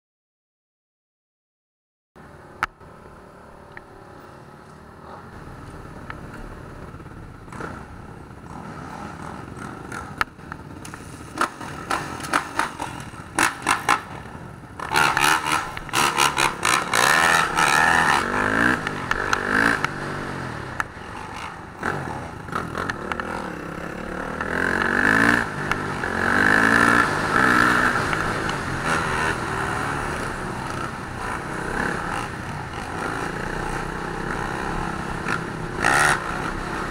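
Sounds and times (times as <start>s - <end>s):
motorcycle engines revving: 2.2s - 36.9s.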